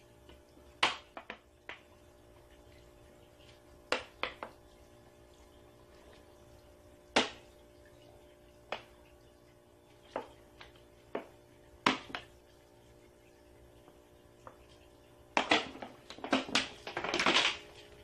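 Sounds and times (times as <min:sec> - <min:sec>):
water drips into pot: 0:00.0 - 0:16.9.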